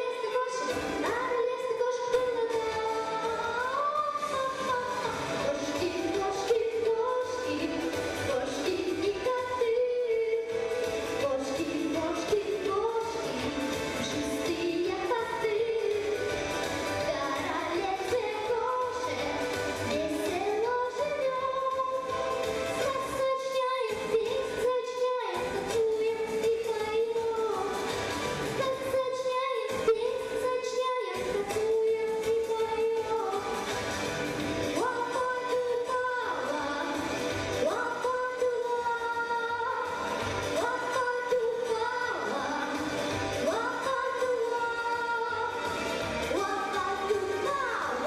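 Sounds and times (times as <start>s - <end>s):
girl singing into microphone: 0.0s - 33.7s, 34.7s - 48.0s.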